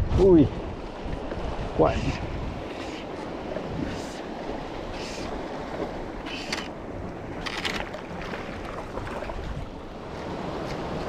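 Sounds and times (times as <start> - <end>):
sea water washing around boat: 0.0 - 11.0
wind on microphone: 0.0 - 11.0.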